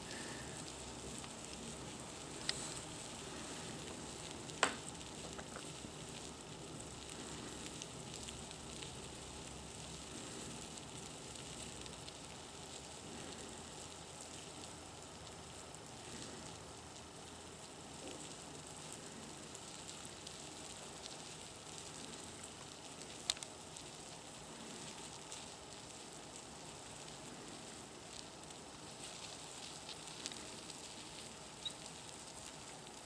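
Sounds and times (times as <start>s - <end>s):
larvae rustling in wood shavings: 0.0s - 33.0s.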